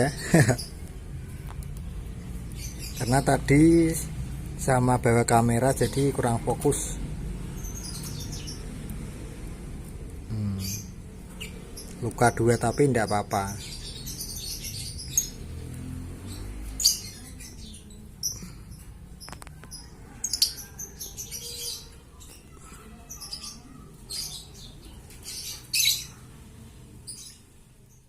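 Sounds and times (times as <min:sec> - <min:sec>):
birds chirping and squawking: 0:00.0 - 0:28.0.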